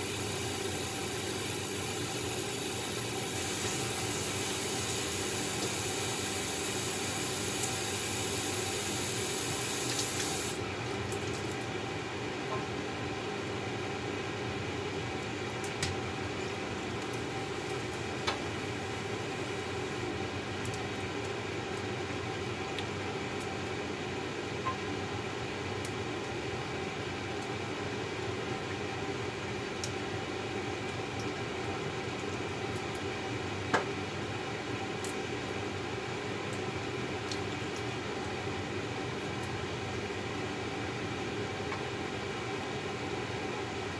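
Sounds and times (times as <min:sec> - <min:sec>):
seafood cooking in a wok: 0:00.0 - 0:43.9.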